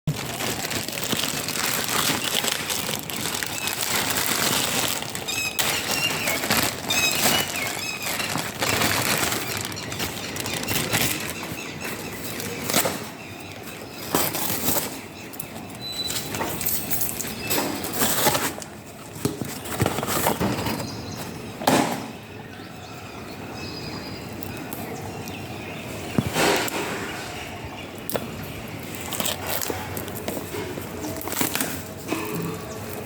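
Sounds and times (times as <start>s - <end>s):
packaging rustling and crinkling: 0.1s - 21.3s, 26.1s - 33.0s.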